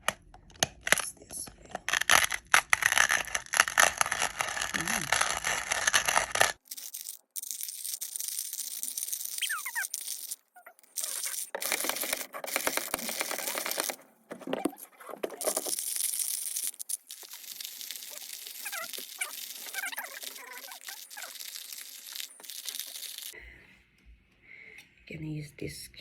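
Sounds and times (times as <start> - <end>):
coffee grinder crushing beans: 0.6 - 23.4.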